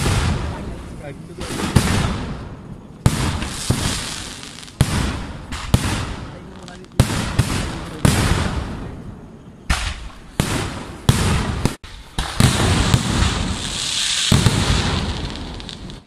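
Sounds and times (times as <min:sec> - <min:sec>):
fireworks bursting with loud bangs: 0:00.0 - 0:16.0
hissing crackle of burning stars: 0:00.0 - 0:16.0.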